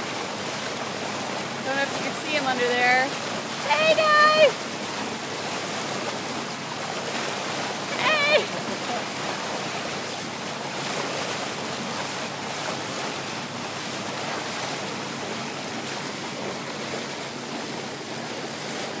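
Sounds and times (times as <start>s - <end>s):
water splashing along boat hull: 0.0s - 19.0s.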